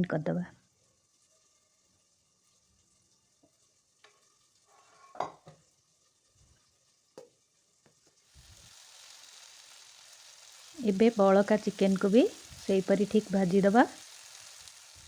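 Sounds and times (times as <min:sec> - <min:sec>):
chicken sizzling in hot oil: 0:00.6 - 0:15.0.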